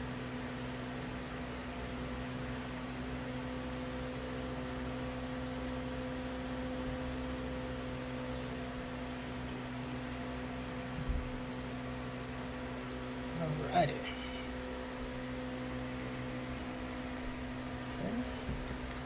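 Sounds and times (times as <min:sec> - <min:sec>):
electrical hum with pitched drone: 0:00.0 - 0:19.0.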